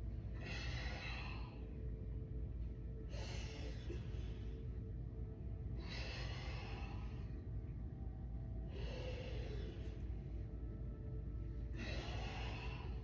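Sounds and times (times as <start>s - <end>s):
woman breathing deeply: 0.0s - 13.0s.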